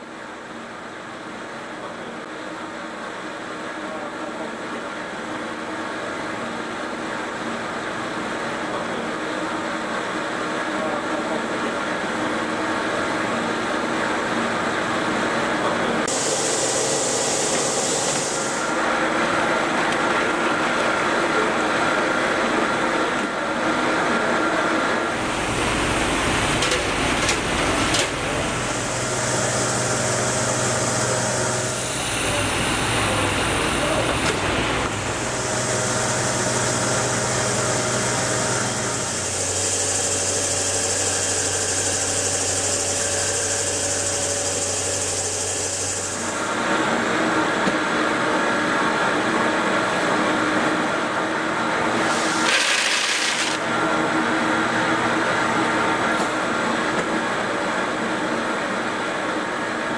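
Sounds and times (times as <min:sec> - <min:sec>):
machine hum with high hiss: 0:00.1 - 0:59.9.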